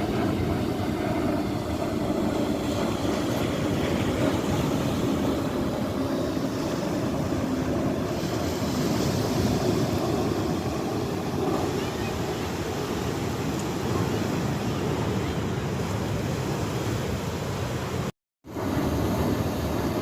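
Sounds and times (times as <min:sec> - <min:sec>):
boat engine drone: 0:00.0 - 0:20.0
water wash: 0:00.0 - 0:20.0
wind buffeting microphone: 0:00.0 - 0:20.0.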